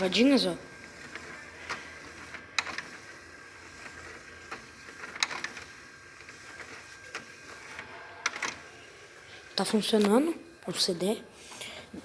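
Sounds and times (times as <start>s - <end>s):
faint cd drive whir: 0.0s - 10.8s.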